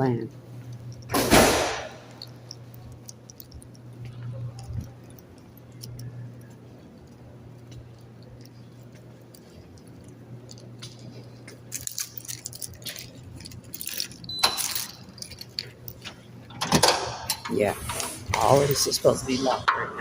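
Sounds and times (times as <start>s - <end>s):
steady low hum: 0.0s - 20.0s
handling clicks and rattles: 0.6s - 17.6s.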